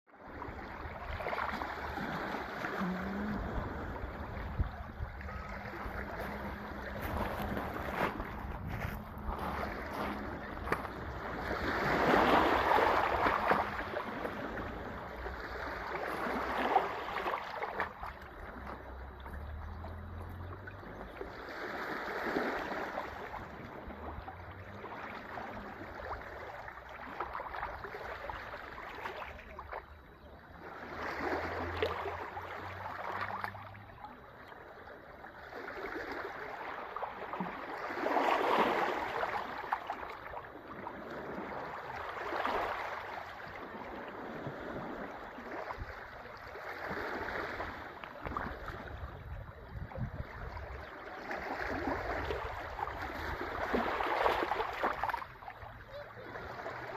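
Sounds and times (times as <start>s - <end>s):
sea waves breaking on shore: 0.1s - 56.9s.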